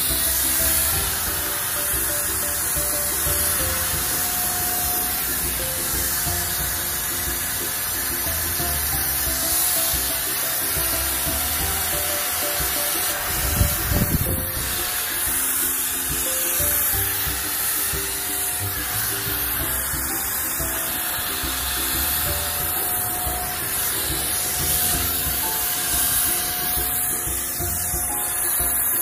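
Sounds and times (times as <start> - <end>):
background music: 0.0 - 29.0
paint sprayer hissing: 0.0 - 29.0.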